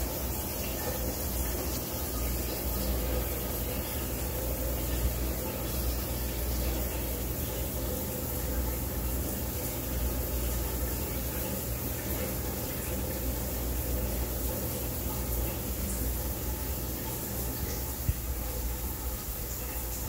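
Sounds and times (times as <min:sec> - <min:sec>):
low hum and hiss: 0:00.0 - 0:20.0.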